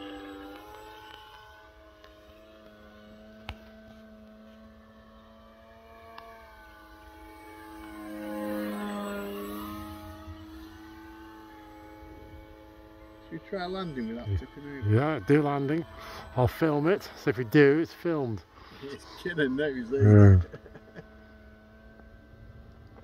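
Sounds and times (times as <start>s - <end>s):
model plane motor humming: 0.0s - 23.0s.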